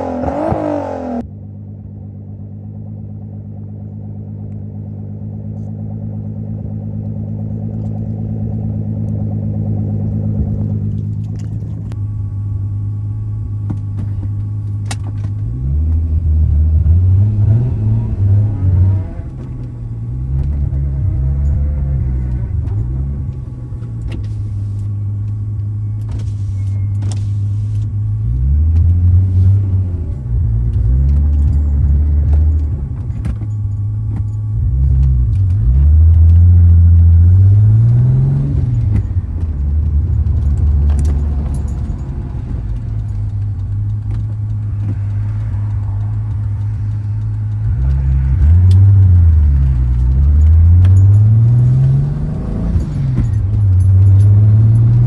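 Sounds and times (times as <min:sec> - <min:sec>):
car engine revving: 0:00.0 - 0:01.3, 0:03.0 - 0:55.0.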